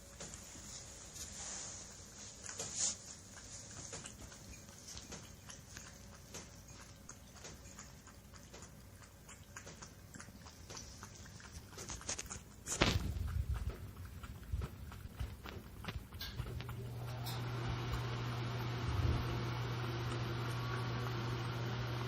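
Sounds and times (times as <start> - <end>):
cat lapping water: 1.7 - 22.0.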